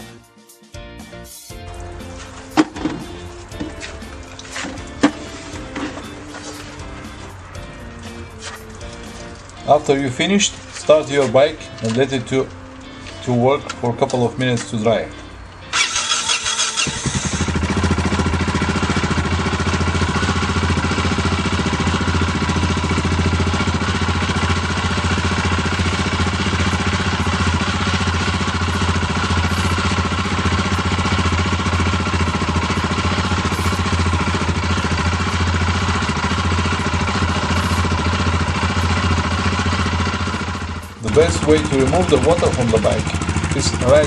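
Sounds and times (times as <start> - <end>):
motorcycle engine idling: 1.9 - 13.1, 15.7 - 44.0.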